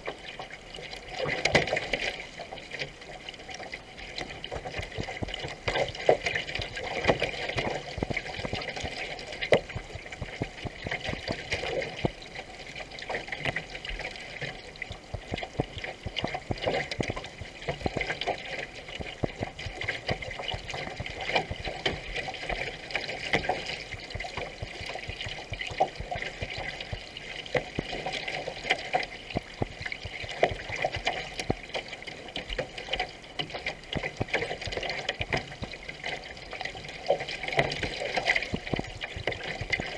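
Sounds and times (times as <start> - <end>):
paddle water splashing: 0.0 - 39.9.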